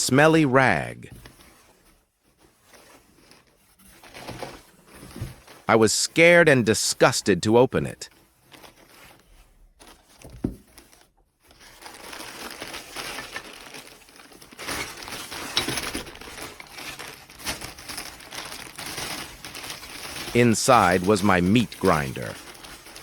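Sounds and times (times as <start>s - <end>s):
wrapping rustling and crinkling: 0.0s - 6.4s, 8.0s - 23.0s.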